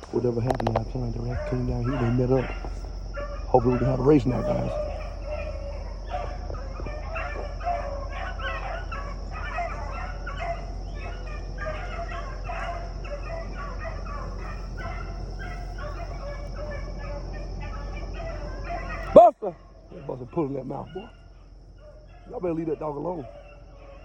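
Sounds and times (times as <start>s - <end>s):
beagles baying: 0.0s - 24.0s.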